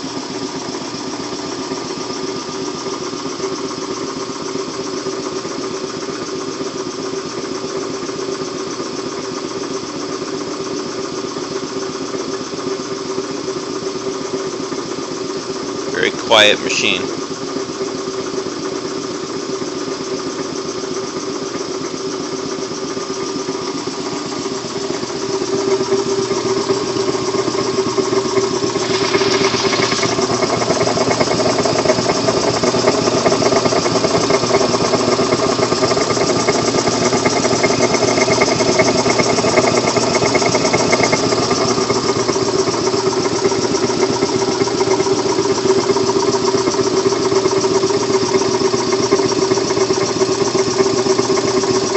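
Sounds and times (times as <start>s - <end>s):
air compressor humming: 0.0s - 8.4s, 9.0s - 51.9s.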